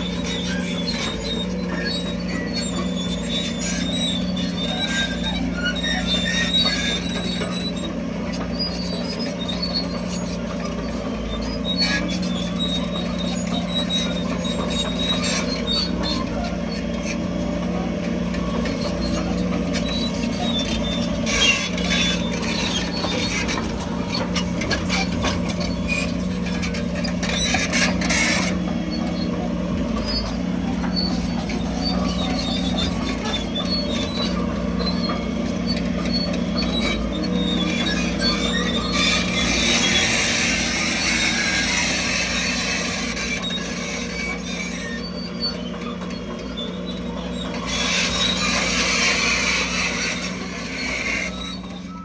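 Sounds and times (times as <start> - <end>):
diesel engine droning: 0.0 - 52.0
steel tracks squealing and clanking: 0.0 - 52.0.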